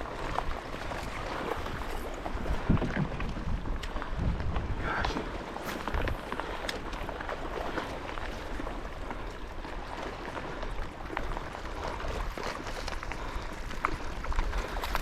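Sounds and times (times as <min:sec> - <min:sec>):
water splashing and lapping: 0:00.0 - 0:15.0
wind rumbling on microphone: 0:00.0 - 0:15.0.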